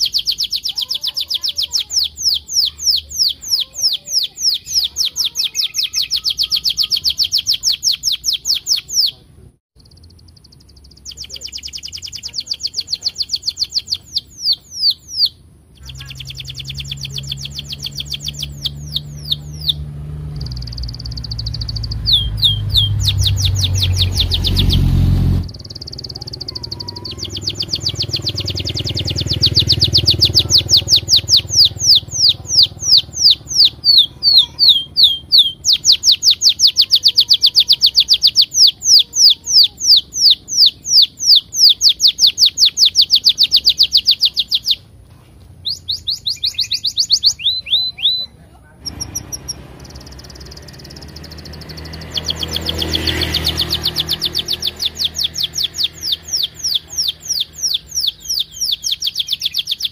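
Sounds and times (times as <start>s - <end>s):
canary singing trills: 0.0s - 45.0s, 45.6s - 59.9s.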